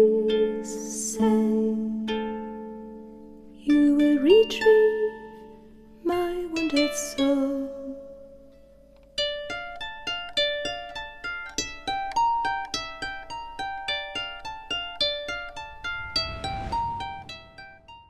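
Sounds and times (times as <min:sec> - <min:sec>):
plucked-string music: 0:00.0 - 0:16.3.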